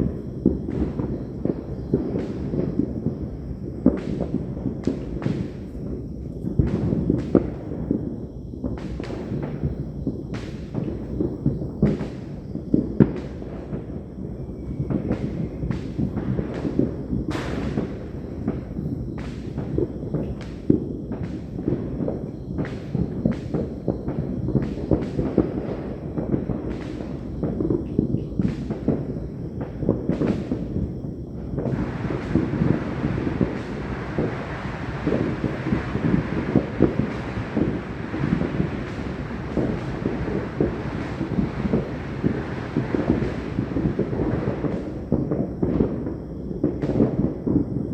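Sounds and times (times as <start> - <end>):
firecrackers cracking: 0.0 - 14.1, 14.8 - 47.9
low rumble of explosions: 0.0 - 47.9.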